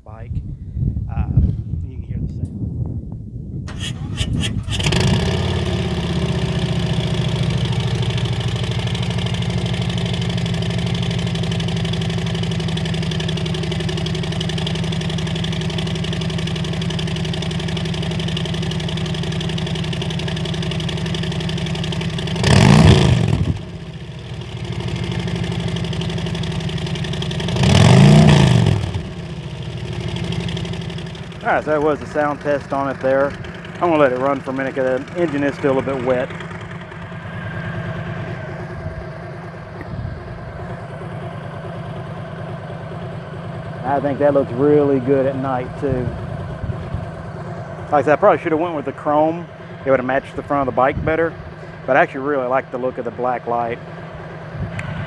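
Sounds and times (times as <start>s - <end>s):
motorcycle engine idling and revving: 2.1s - 55.0s.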